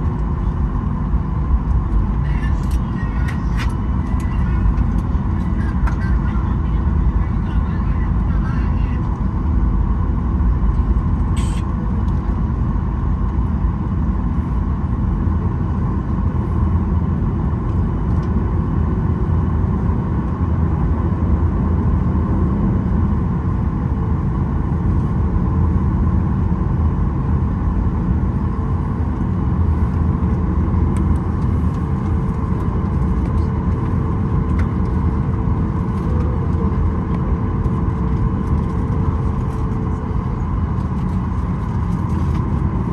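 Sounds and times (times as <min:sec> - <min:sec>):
airliner engine rumble in cabin: 0:00.0 - 0:42.9.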